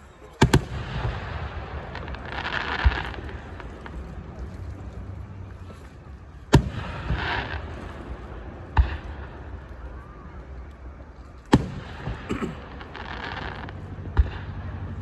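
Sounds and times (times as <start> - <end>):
crackling hiss of fireworks: 0.0 - 15.0
firework bangs: 0.0 - 15.0.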